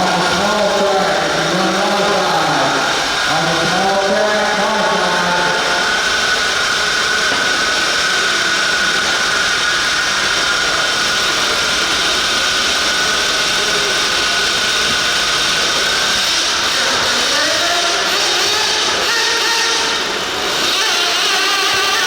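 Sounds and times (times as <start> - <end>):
loud even noise: 0.0 - 22.0
motors whining under load: 0.0 - 22.0.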